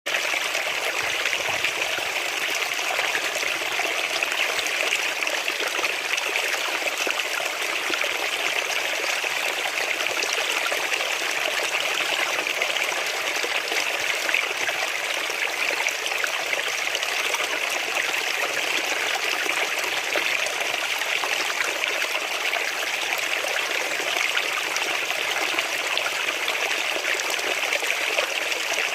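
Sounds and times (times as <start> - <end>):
river water running over rocks: 0.1 - 28.9.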